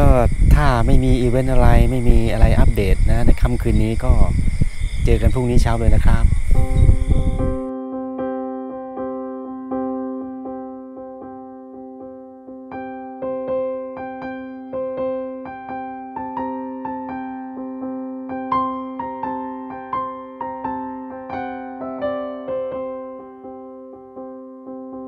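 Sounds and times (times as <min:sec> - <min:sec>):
soft electric piano music: 0:00.0 - 0:04.4, 0:05.0 - 0:25.0.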